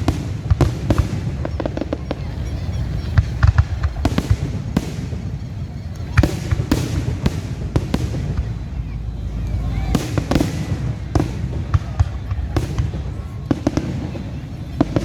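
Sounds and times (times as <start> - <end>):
fireworks bangs and booms: 0.0 - 15.0.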